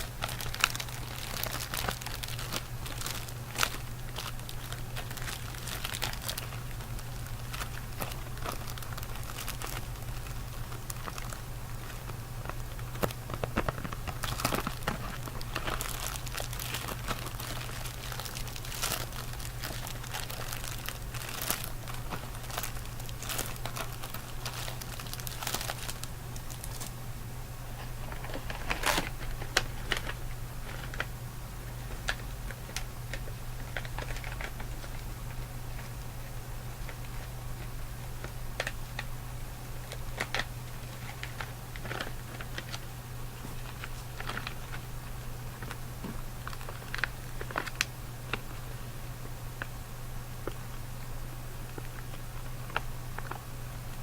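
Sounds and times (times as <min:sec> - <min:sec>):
candy wrapper crinkling: 0:00.0 - 0:27.0, 0:27.8 - 0:39.1, 0:39.7 - 0:48.8, 0:51.7 - 0:53.5
steady low hum: 0:00.0 - 0:54.0.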